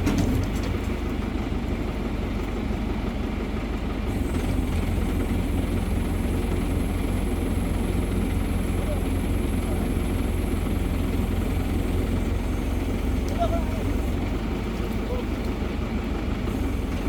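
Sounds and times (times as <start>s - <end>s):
crane engine throbbing: 0.0s - 17.0s.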